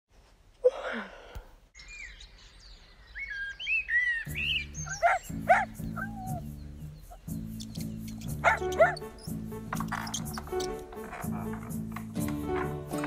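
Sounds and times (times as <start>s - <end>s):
birds chirping: 1.7s - 13.0s.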